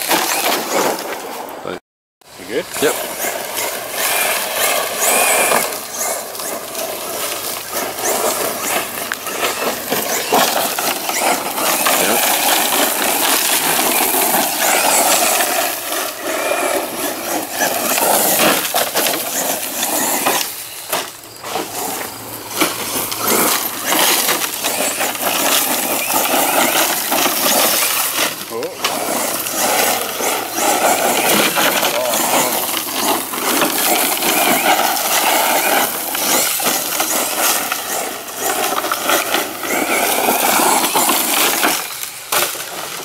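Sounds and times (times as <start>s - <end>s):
electric motor whining: 0.0s - 1.1s, 2.4s - 43.0s
stones crunching under tyres: 2.6s - 43.0s.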